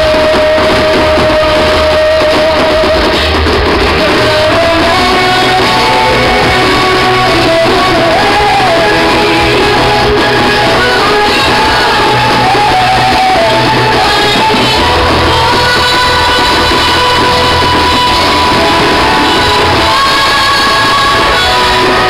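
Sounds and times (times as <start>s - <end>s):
person singing: 0.0s - 22.0s
steady bass line: 0.0s - 22.0s.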